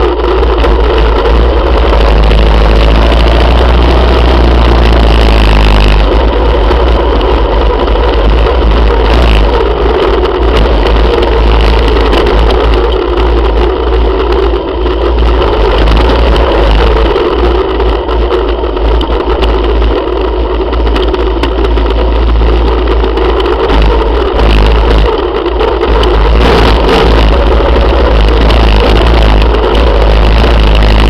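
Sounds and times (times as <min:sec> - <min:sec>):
motorcycle engines running: 0:00.0 - 0:31.0
wind on microphone: 0:00.0 - 0:31.0.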